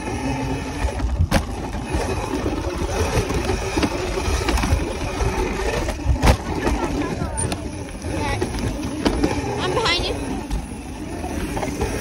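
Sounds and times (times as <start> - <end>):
bike tyres rolling on dirt: 0.0 - 12.0.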